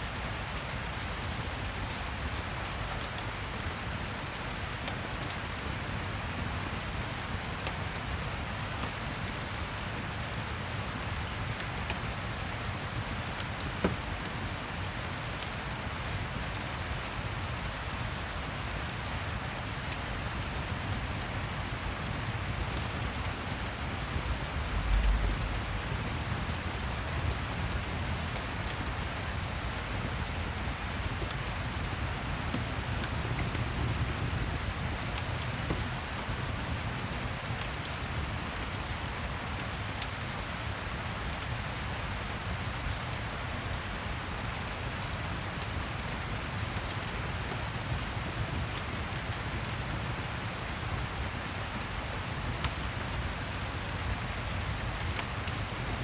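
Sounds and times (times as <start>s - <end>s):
fireplace fire crackling: 0.0s - 56.0s
rain pattering: 0.0s - 56.0s.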